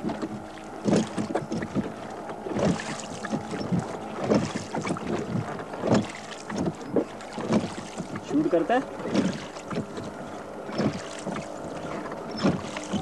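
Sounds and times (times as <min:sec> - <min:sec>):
paddle splashes and knocks: 0:00.0 - 0:13.0.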